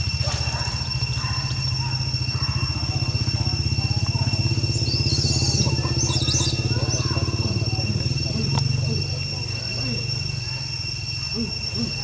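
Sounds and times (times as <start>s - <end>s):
high wavering squeaks: 0.0s - 12.0s
high-pitched whine: 0.0s - 12.0s
small engine idling: 0.0s - 12.0s.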